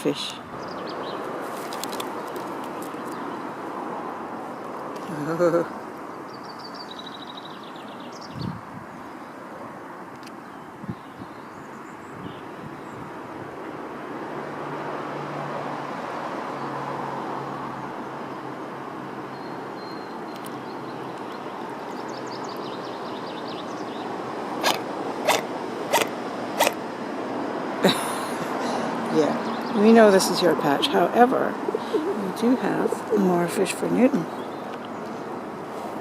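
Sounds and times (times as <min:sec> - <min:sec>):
distant traffic rumble: 0:00.0 - 0:36.0.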